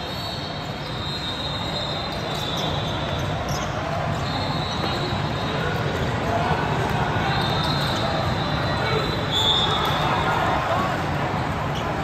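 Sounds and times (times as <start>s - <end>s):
game noise in large hall: 0.0s - 12.0s.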